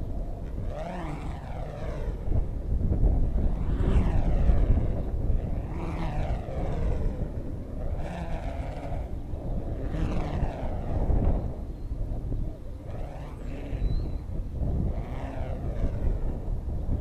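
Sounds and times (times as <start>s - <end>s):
stunt kite whooshing: 0.0s - 17.0s
wind rumble on microphone: 0.0s - 17.0s.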